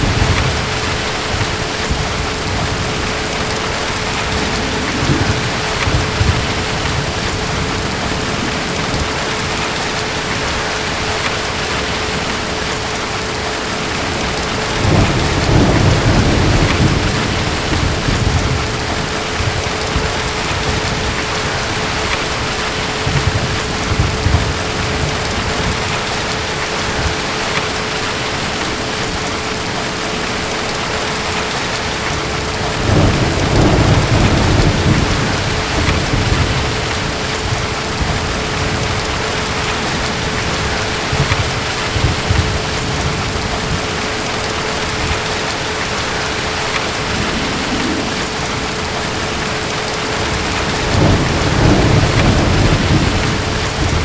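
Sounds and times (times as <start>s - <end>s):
distant thunder rumbling: 0.0s - 54.0s
heavy rain: 0.0s - 54.0s.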